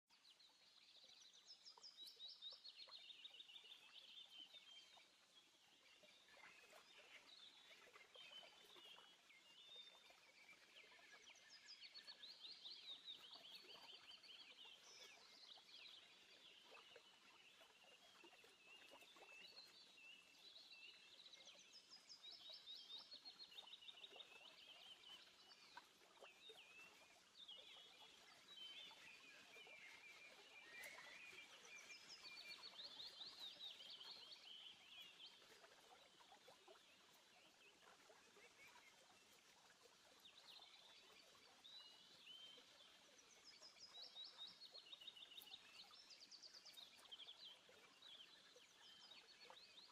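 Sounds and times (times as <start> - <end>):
small birds chirping: 0.2 - 49.9.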